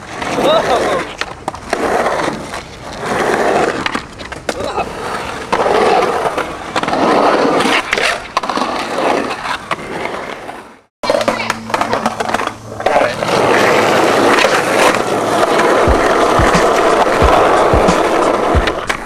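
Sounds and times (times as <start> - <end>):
skateboard clicks and knocks: 0.0 - 19.0
skateboard wheels rolling on concrete: 0.0 - 19.0.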